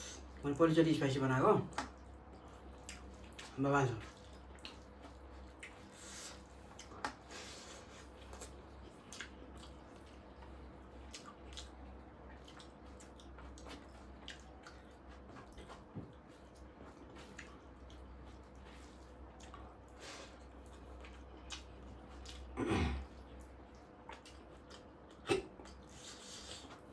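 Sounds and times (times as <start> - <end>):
chewing and mouth smacks: 1.7 - 26.9.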